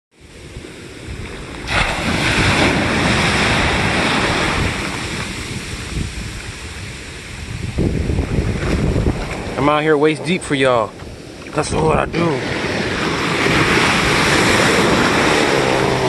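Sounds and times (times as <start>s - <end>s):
waves breaking in surf: 0.2s - 16.0s
wind buffeting microphone: 0.2s - 16.0s.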